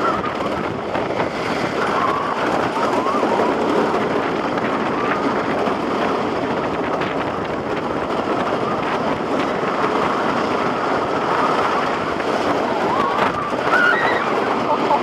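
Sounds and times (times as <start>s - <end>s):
roller coaster running on track: 0.0s - 15.0s.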